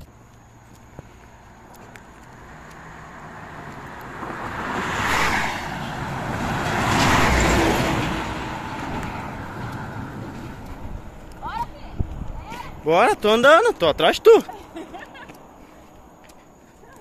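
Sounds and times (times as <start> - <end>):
truck passing with deep rumble: 0.0 - 16.7
vehicles passing on highway: 0.0 - 17.0.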